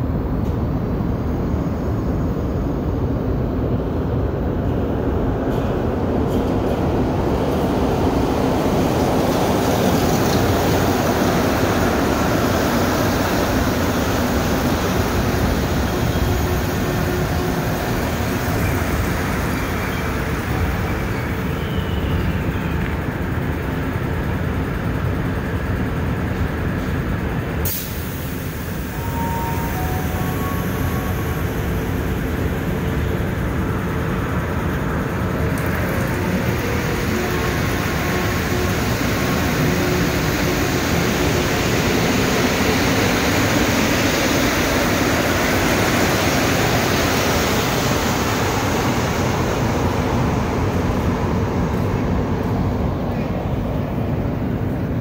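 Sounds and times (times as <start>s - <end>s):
metro train running: 0.0s - 55.0s.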